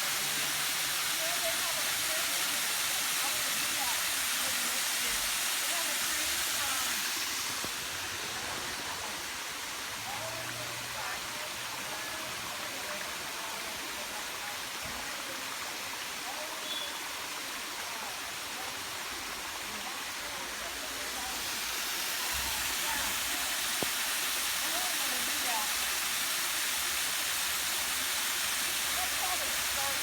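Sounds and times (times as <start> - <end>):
waterfall pouring: 0.0 - 16.4, 17.0 - 30.0.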